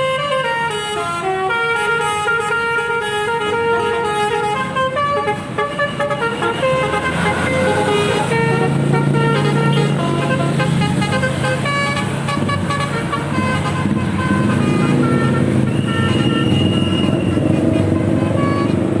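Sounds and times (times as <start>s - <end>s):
low rumble of bus engine: 0.0s - 19.0s
multi-tone air horn tune: 0.0s - 19.0s.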